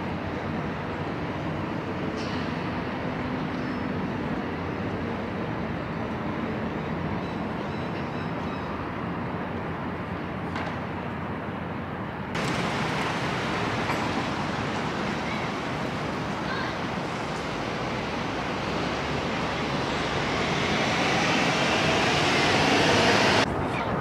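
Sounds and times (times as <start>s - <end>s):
traffic going by: 0.1s - 23.8s.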